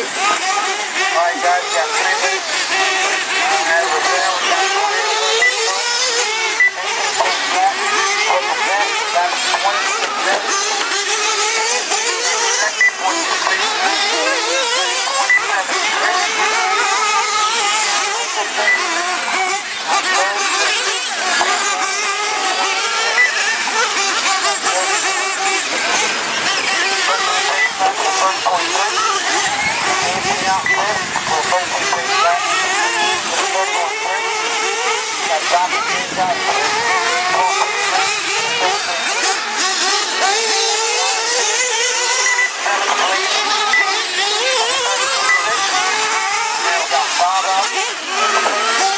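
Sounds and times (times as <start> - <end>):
rc truck motors whining: 0.0 - 48.9.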